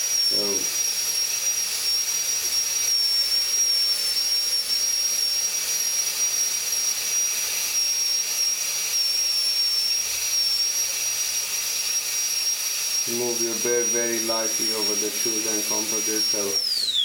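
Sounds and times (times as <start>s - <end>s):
dental drill whining: 0.0s - 17.0s.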